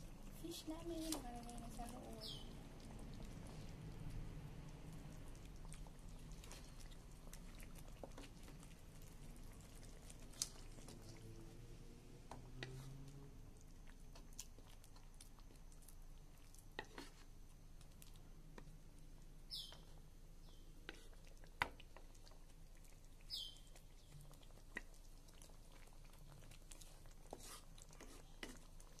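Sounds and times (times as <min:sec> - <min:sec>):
sauce simmering pops: 0:00.2 - 0:29.0.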